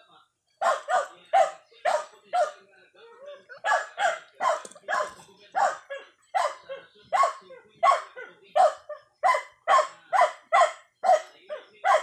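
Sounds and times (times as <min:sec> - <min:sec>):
dog barking: 0:00.6 - 0:02.6, 0:03.5 - 0:12.0.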